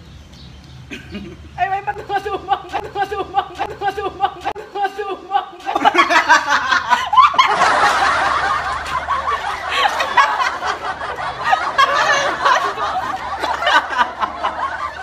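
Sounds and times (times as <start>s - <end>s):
women laughing: 0.9s - 15.0s.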